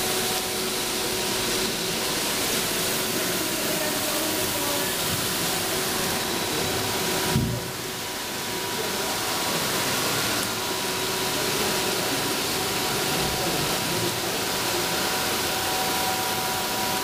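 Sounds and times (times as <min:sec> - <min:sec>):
processing machine hissing: 0:00.0 - 0:17.0.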